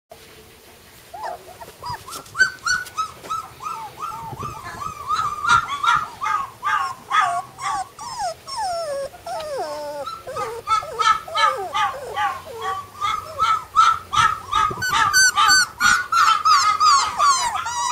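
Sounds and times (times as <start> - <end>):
puppy whimpering: 1.1 - 17.9.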